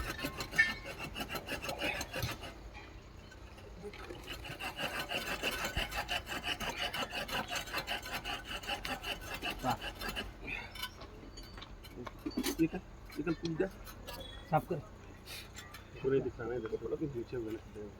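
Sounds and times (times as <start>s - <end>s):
filing steel rail weld: 0.0s - 3.5s, 4.2s - 16.0s.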